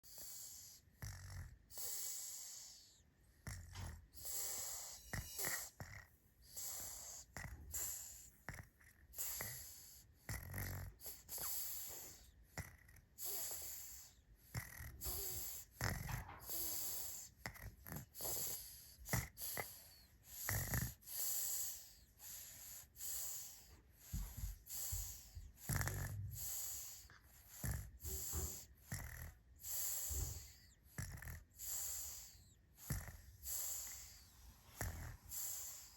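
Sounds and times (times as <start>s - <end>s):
baby snoring: 0.1s - 35.9s
baby snorting: 0.1s - 35.9s.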